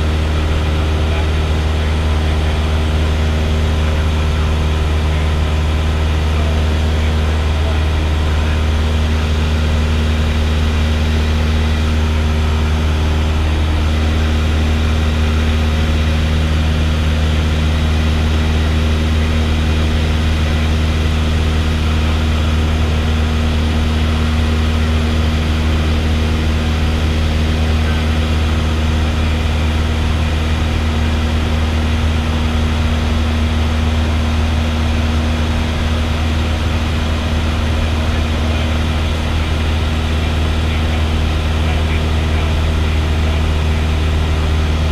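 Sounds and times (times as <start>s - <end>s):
airplane engine drone in cabin: 0.0s - 44.9s.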